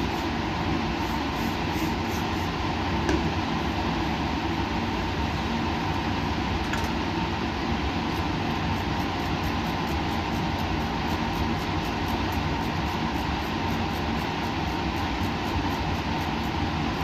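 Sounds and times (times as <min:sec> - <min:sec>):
ventilation whoosh and hum: 0:00.0 - 0:17.0.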